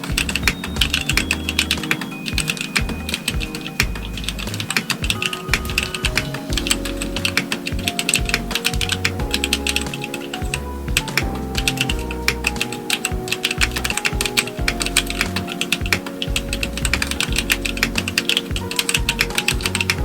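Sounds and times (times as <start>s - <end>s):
background music with bass line: 0.0s - 20.0s
mechanical keyboard typing: 0.0s - 20.0s.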